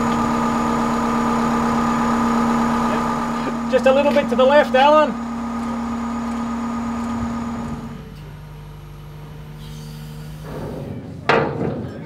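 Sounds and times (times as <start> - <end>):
diesel engine running: 0.0 - 11.3.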